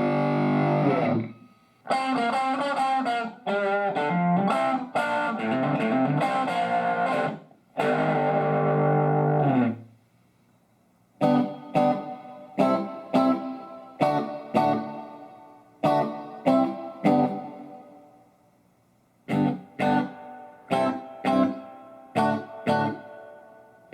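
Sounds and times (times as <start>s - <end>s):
electric guitar notes and chords: 0.0s - 9.8s, 11.2s - 18.0s, 19.3s - 23.9s.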